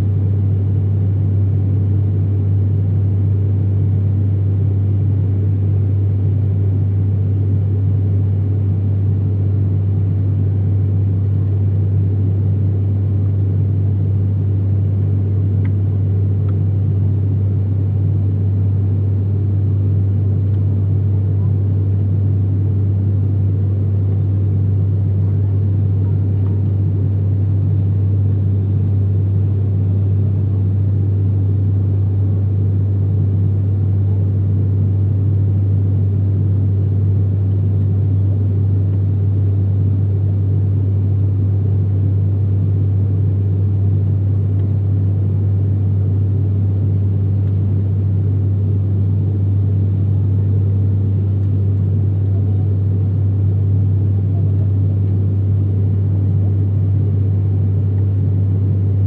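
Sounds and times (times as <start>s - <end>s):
propeller and engine drone: 0.0s - 59.0s.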